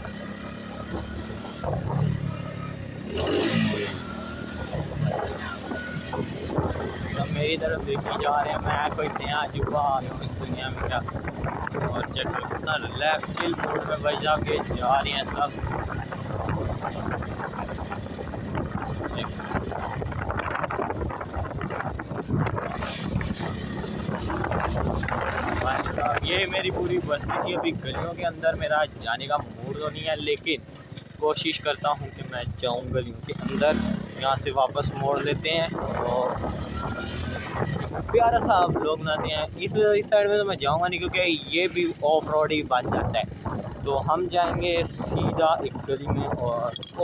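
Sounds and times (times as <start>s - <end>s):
motorcycle engine running: 0.0s - 47.0s
wind buffeting microphone: 0.8s - 31.2s, 32.1s - 47.0s.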